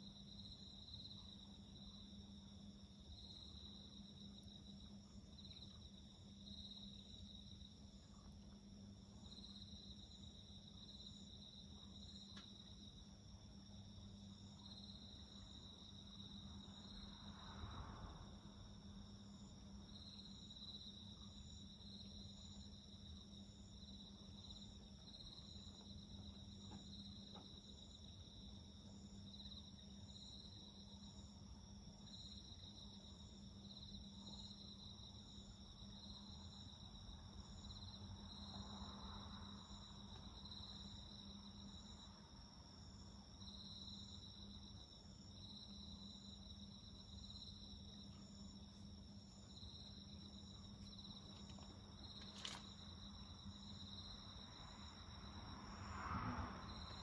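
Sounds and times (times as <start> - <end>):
pulsed cricket chirp: 0.0 - 57.0.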